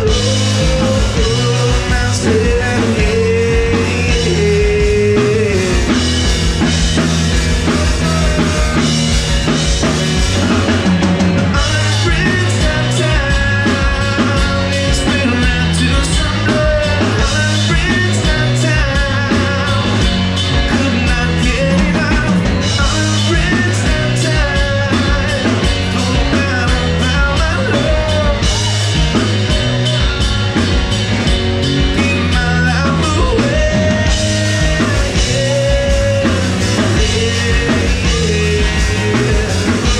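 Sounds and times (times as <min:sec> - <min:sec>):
person singing: 0:00.0 - 0:30.3, 0:31.8 - 0:39.9
amplified electric guitars: 0:00.0 - 0:39.9
drums: 0:00.0 - 0:39.9.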